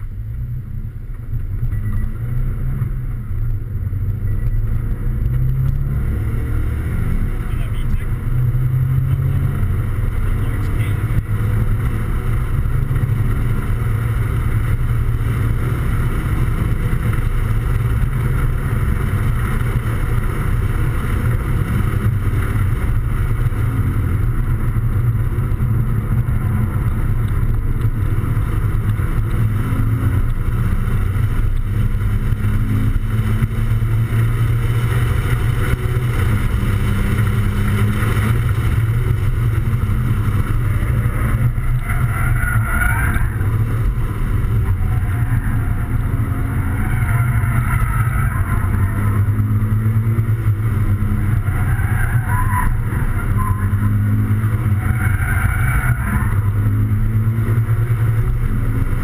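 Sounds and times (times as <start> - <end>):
car engine running: 0.0 - 59.0
wind and road noise rumble: 0.0 - 59.0.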